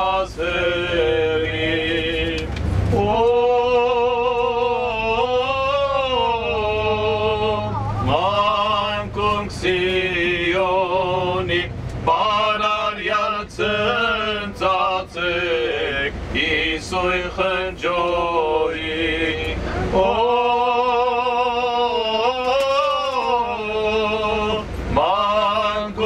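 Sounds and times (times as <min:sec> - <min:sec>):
man singing a chant-like hymn: 0:00.0 - 0:26.0.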